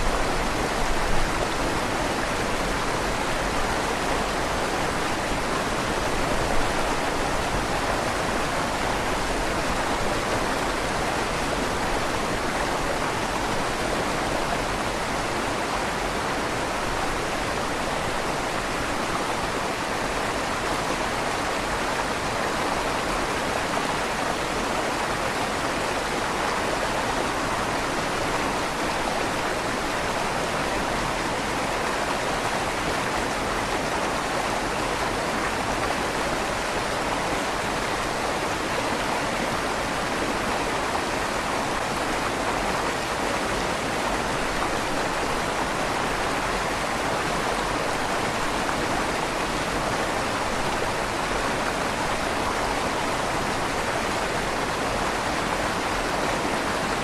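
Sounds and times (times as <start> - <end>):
river water flowing in a tunnel: 0.0 - 57.0.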